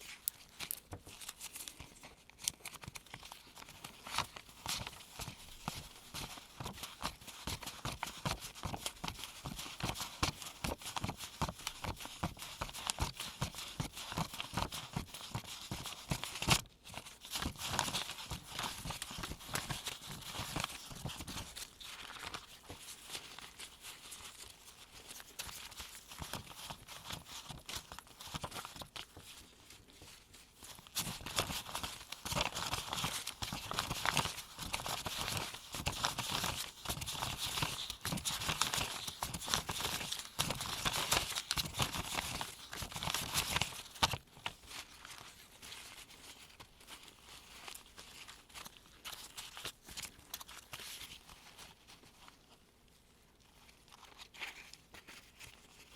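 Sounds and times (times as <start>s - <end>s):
paper bills flicking and rustling: 0.0s - 52.1s.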